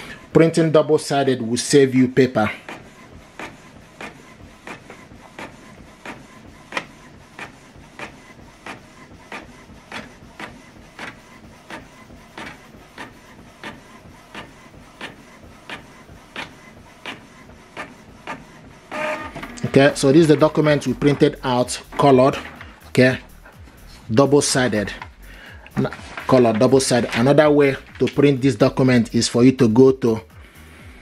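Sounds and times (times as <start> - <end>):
inkjet printer printing: 0.0 - 30.4.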